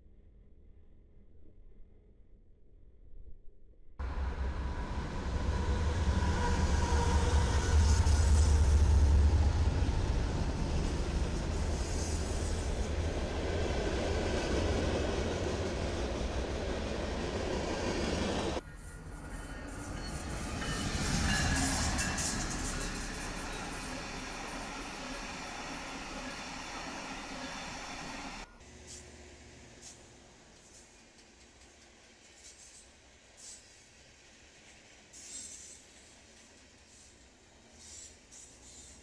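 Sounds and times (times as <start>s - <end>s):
diesel locomotive engine rumble: 4.0s - 39.0s
wheels on rail: 4.0s - 39.0s.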